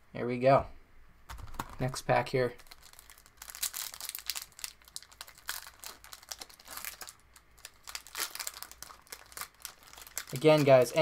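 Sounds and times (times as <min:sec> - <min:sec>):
card pack wrapper crinkling: 0:01.3 - 0:11.0.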